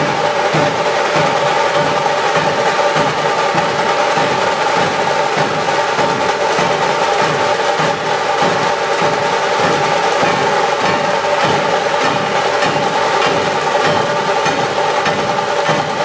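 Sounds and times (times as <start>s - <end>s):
drum troupe beating: 0.0s - 16.0s.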